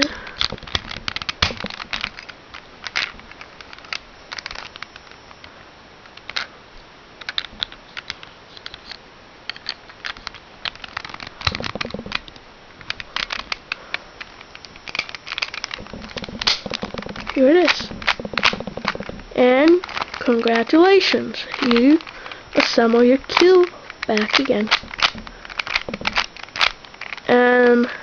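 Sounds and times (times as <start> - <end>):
plastic puzzle cube clicking: 0.0 - 5.4, 6.1 - 6.5, 7.2 - 28.0.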